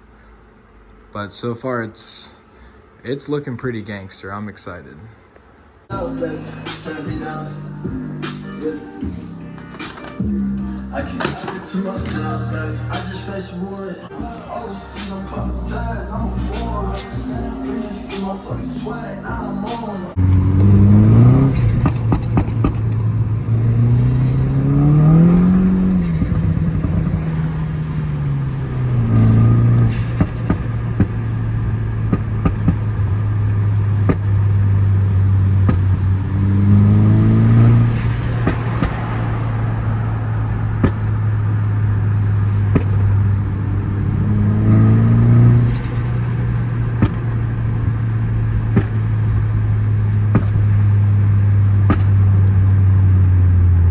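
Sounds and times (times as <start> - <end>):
car engine idling and revving: 5.8 - 53.9.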